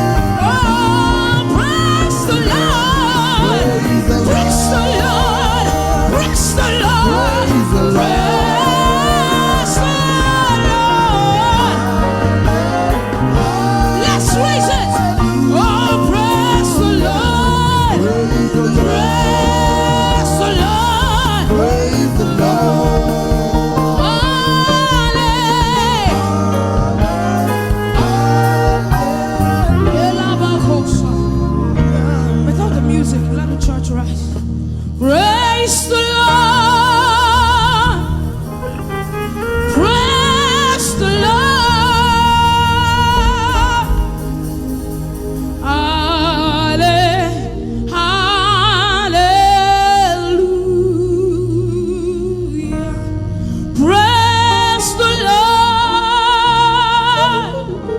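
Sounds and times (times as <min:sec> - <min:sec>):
live band playing: 0:00.0 - 0:57.9
person singing with vibrato: 0:00.0 - 0:57.9
sustained background chords: 0:00.0 - 0:57.9.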